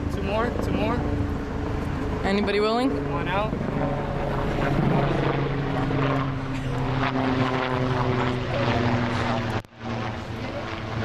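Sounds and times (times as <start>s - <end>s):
engine-like drone: 0.0s - 11.0s.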